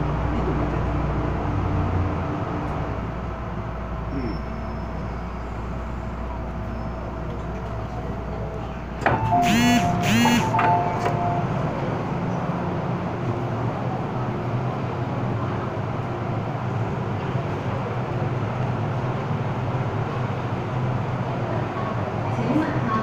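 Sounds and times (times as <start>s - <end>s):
train low hum and rumble: 0.0s - 23.0s.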